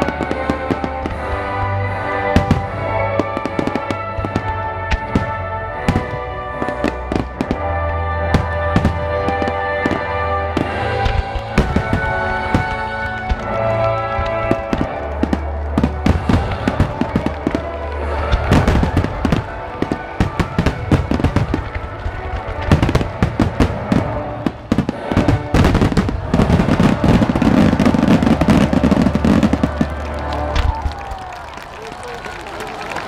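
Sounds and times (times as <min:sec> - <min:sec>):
fireworks bursting with crackle: 0:00.0 - 0:31.8
music playing: 0:00.0 - 0:33.0.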